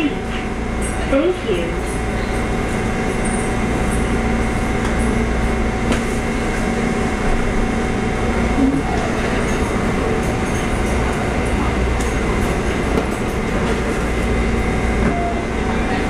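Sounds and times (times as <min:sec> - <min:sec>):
train interior low rumble: 0:00.0 - 0:16.0.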